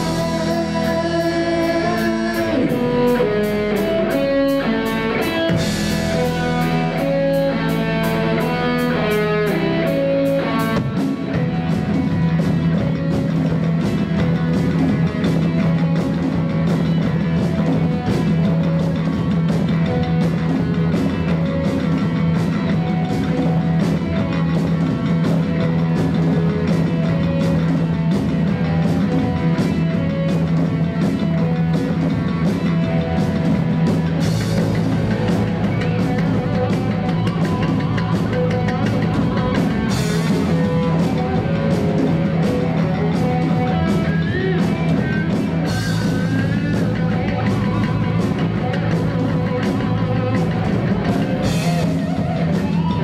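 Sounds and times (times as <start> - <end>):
drum kit beat: 0.0 - 53.0
electric guitars: 0.0 - 53.0
low bass line: 0.0 - 53.0.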